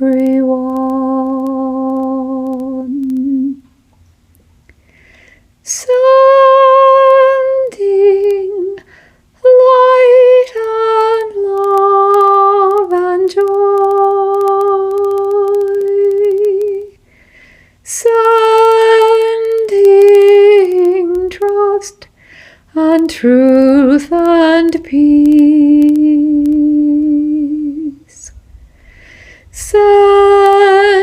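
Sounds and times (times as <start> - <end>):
woman singing long wordless notes: 0.0 - 3.7, 5.6 - 17.0, 17.8 - 31.0.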